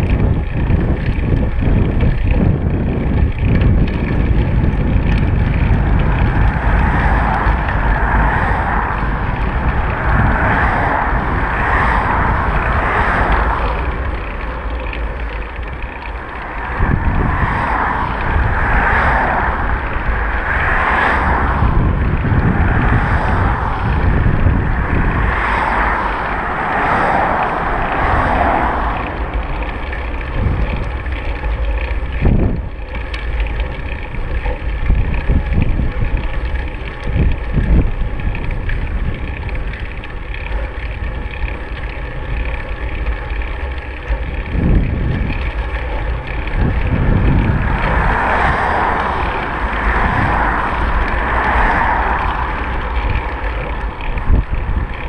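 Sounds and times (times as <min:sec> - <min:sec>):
low road rumble: 0:00.0 - 0:55.0
wind buffeting microphone: 0:00.0 - 0:55.0.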